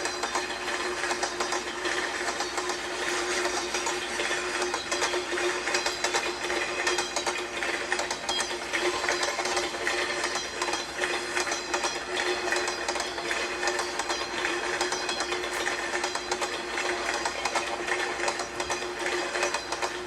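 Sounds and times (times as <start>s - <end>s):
clickety-clack of wheels: 0.0s - 20.0s
toy train motor hum: 0.0s - 20.0s.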